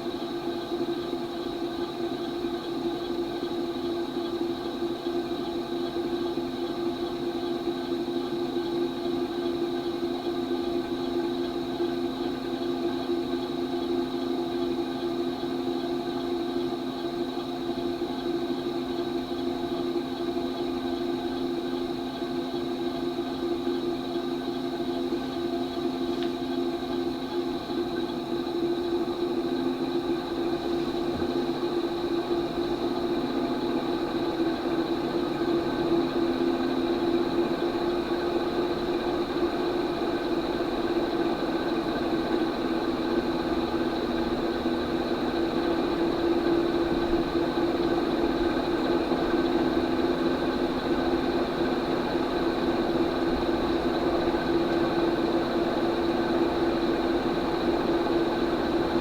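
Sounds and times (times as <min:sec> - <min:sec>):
ceiling fan motor humming: 0:00.0 - 0:59.0.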